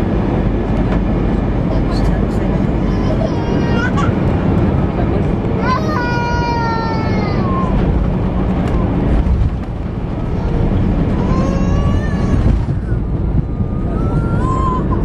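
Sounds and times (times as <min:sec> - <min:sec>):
low rumble of wheels and engines: 0:00.0 - 0:15.0.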